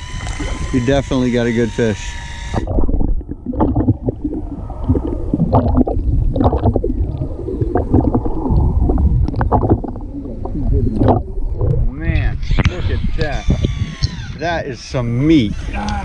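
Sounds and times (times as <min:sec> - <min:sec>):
underwater low rumbling: 0:00.0 - 0:16.0
water gurgling and bubbling: 0:00.0 - 0:16.0.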